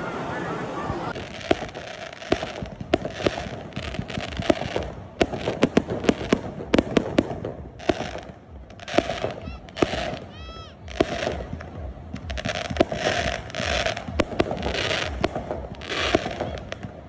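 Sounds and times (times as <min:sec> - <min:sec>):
fireworks bangs: 0:00.8 - 0:17.0
fireworks hissing: 0:01.1 - 0:17.0.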